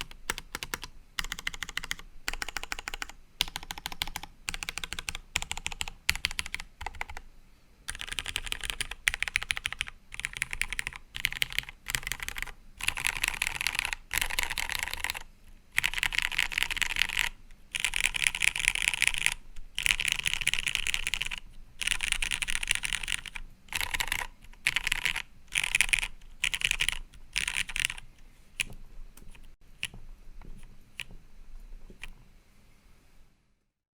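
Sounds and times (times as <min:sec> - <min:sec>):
mechanical keyboard typing: 0:00.0 - 0:07.2, 0:07.9 - 0:30.0.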